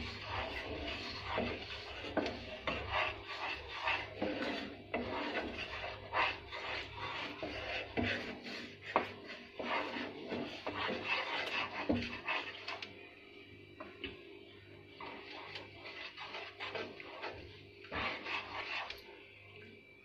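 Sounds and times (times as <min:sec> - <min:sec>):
utensil scraping and stirring in a pan: 0:00.0 - 0:13.1, 0:14.9 - 0:19.3.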